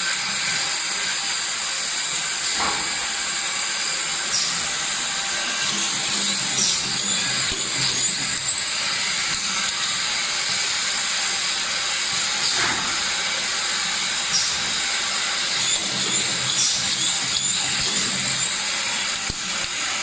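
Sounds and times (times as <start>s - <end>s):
filling machine hissing: 0.0s - 20.0s.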